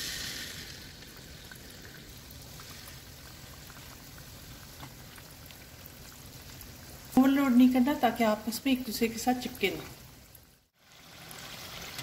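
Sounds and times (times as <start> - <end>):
potatoes frying in oil: 0.0 - 12.0.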